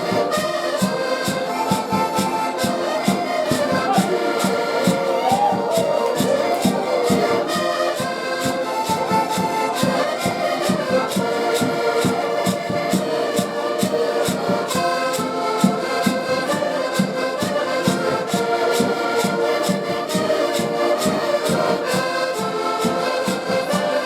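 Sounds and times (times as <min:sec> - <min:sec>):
live band traditional music: 0:00.0 - 0:24.0.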